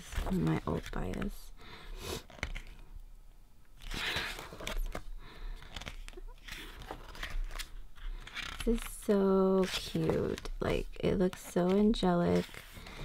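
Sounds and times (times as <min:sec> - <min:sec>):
book pages rustling: 0:00.0 - 0:01.4, 0:02.2 - 0:02.9, 0:03.8 - 0:13.0.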